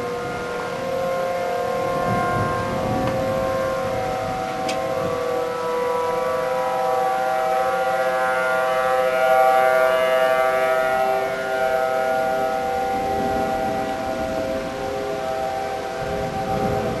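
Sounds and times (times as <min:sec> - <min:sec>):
outdoor warning sirens: 0:00.0 - 0:17.0.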